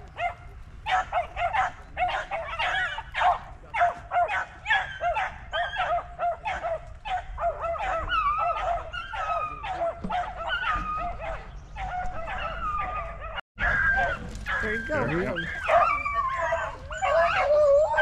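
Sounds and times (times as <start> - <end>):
dogs yelping: 0.0 - 18.0.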